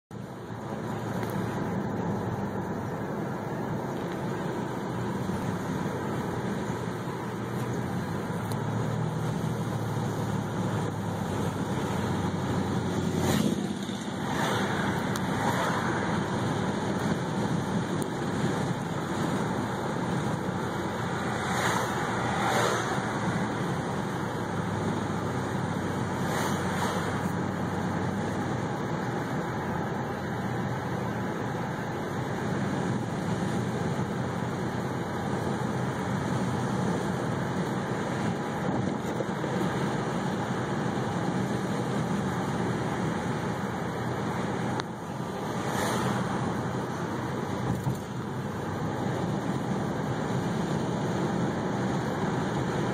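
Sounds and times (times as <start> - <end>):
car road noise: 0.1 - 52.9.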